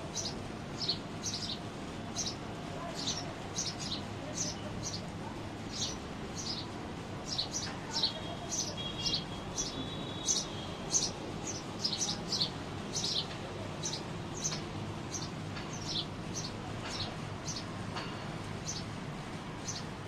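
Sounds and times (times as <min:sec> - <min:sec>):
small birds chirping: 0:00.0 - 0:19.0, 0:19.6 - 0:20.0.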